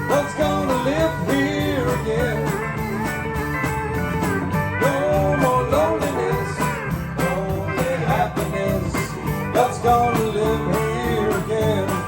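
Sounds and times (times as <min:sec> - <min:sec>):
person singing: 0:00.0 - 0:03.6, 0:04.6 - 0:12.0
country band with guitar: 0:00.0 - 0:12.0.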